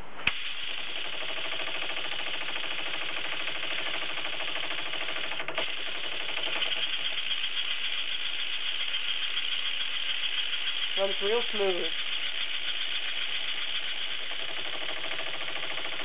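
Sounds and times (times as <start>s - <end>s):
air engine chuffing and knocking: 0.3s - 16.0s.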